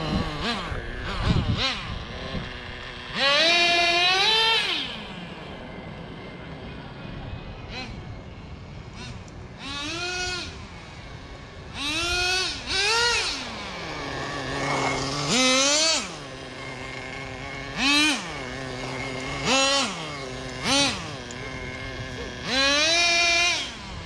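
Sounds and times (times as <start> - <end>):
model car engine idling and revving: 0.0 - 24.0.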